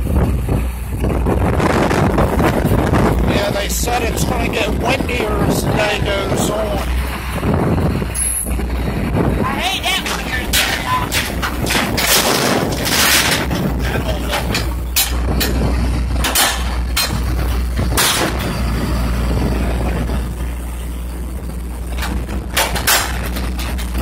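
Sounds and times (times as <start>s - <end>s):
dumpster banging and clanking: 0.0s - 20.8s, 21.7s - 24.0s
garbage truck engine running: 0.0s - 24.0s.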